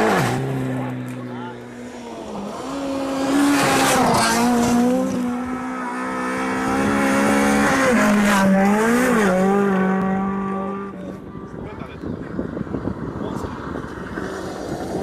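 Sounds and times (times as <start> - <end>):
rally car engine at high revs: 0.0 - 11.3, 12.3 - 15.0.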